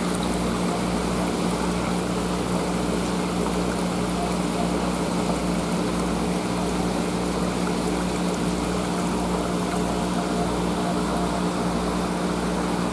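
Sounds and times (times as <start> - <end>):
pump electric hum: 0.0 - 12.9
water rushing: 0.0 - 12.9.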